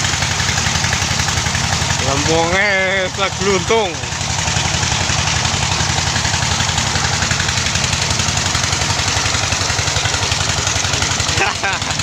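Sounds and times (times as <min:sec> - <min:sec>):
engine running with thumping pulse: 0:00.0 - 0:12.0.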